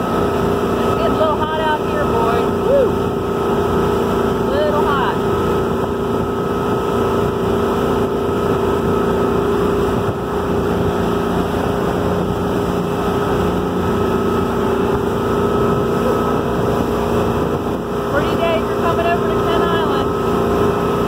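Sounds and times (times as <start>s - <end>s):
motorboat engine drone: 0.0s - 21.0s
rush of boat wake: 0.0s - 21.0s.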